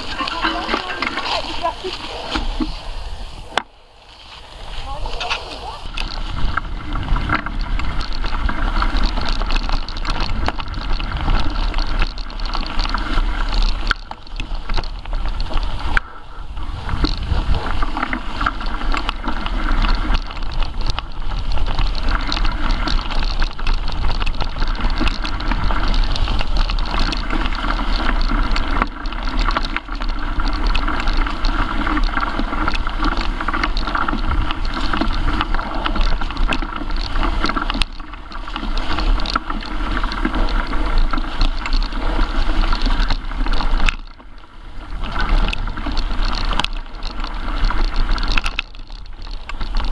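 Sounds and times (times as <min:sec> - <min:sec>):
mountain bike rattling on trail: 0:00.0 - 0:49.9
bike knocking over bumps: 0:05.0 - 0:16.0, 0:16.6 - 0:49.9.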